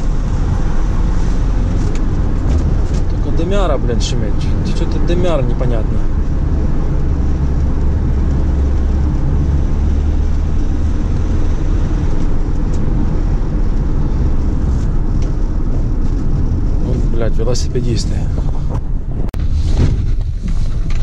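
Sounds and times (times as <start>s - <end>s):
tyre and wind noise: 0.0s - 21.0s
van engine drone: 0.0s - 21.0s.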